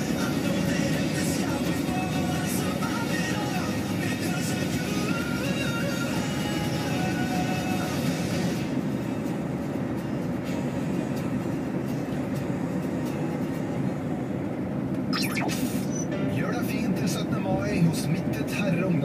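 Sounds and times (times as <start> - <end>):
vehicle engine and tyre rumble: 0.0 - 19.0.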